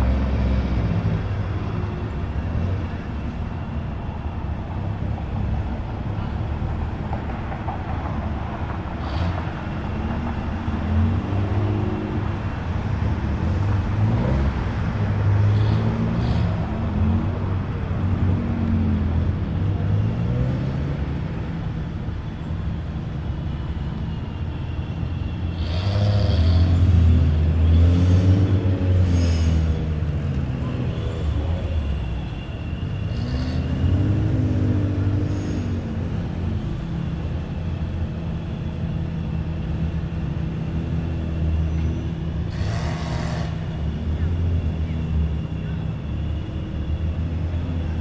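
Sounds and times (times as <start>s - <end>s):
car engines revving: 0.0s - 3.4s, 7.9s - 21.9s, 23.6s - 48.0s
loud car engine: 0.0s - 3.6s, 7.9s - 48.0s.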